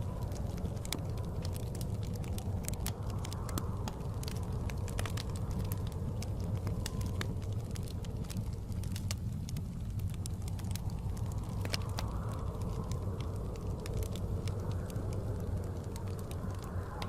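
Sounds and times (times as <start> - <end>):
blizzard wind rumble: 0.0 - 17.0
wood fire crackling: 0.0 - 17.0.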